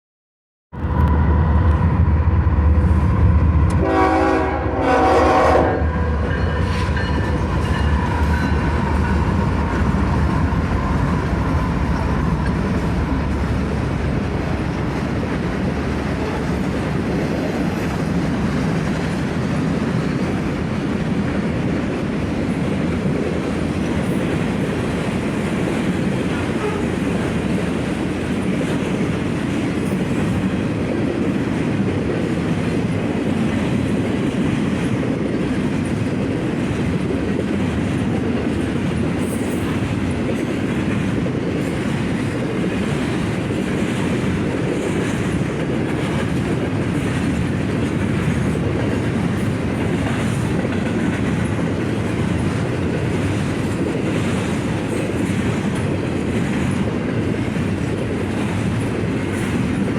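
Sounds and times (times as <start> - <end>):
freight train wheels rumbling: 0.7 - 59.9.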